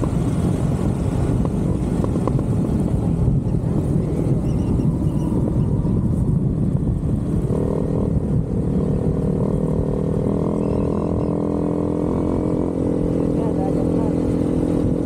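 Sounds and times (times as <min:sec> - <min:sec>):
motorcycle engine drone: 0:00.0 - 0:15.0
wind rumble on microphone: 0:00.0 - 0:15.0.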